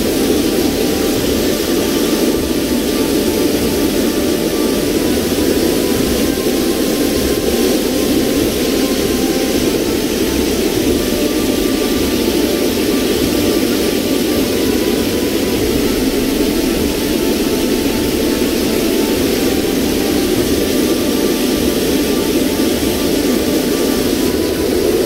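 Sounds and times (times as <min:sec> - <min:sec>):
river water rushing over rocks: 0:00.0 - 0:25.0.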